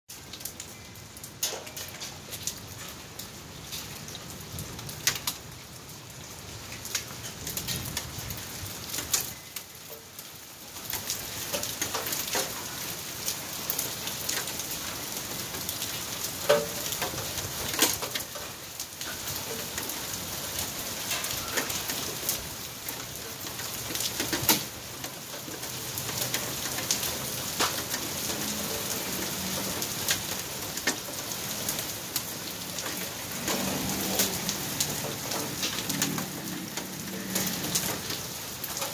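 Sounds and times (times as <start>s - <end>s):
hail and rain on concrete: 0.1s - 38.9s.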